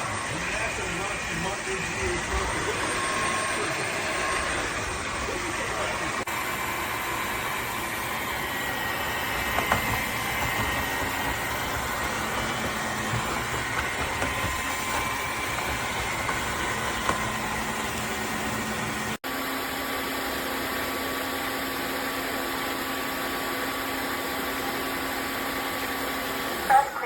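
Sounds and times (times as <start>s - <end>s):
vacuum mop motor and roller drone: 0.0s - 27.0s.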